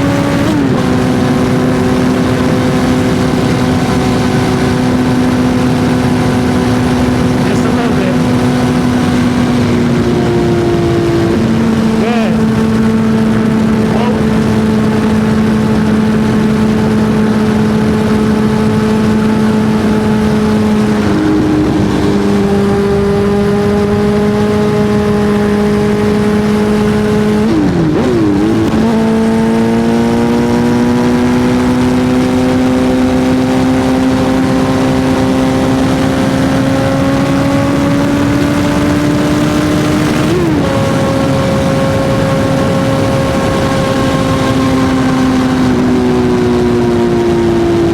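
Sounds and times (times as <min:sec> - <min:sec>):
motorcycle engine running high: 0:00.0 - 0:47.9.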